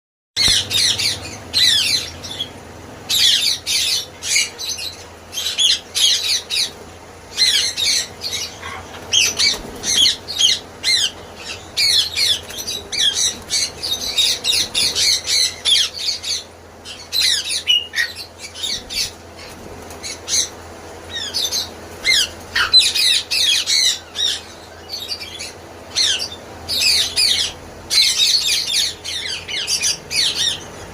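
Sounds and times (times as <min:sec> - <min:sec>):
parrots squawking and chattering: 0:00.4 - 0:30.9.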